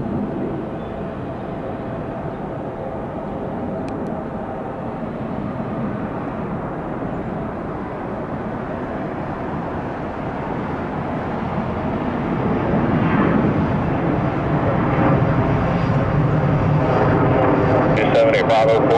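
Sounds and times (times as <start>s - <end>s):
jet engines rumbling: 0.0s - 18.9s.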